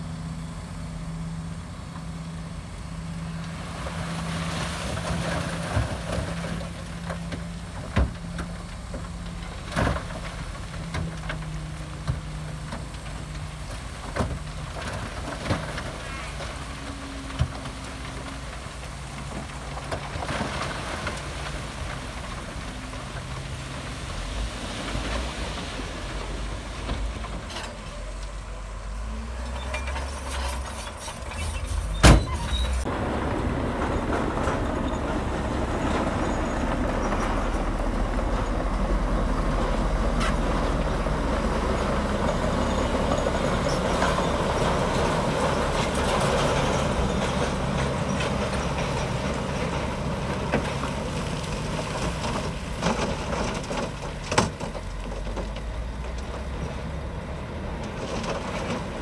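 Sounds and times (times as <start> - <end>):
bulldozer diesel engine rumble: 0.0 - 59.0.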